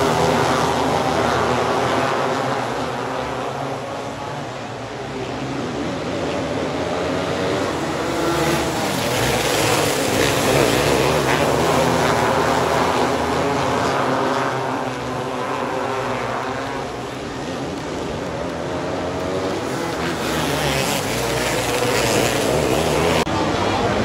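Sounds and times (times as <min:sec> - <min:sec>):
racing car engines high-revving: 0:00.0 - 0:24.0.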